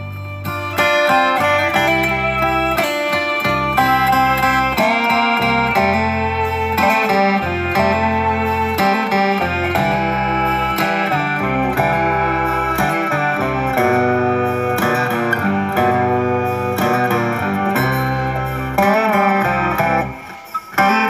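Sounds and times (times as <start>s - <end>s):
sustained bass line: 0.0s - 20.2s
plucked guitar melody: 0.0s - 21.0s.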